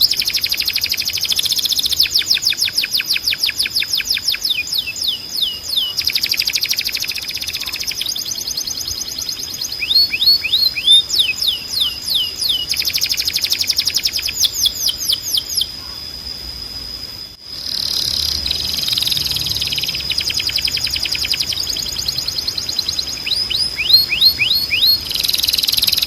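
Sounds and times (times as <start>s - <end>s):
canary singing trills: 0.0s - 16.2s, 17.5s - 26.0s.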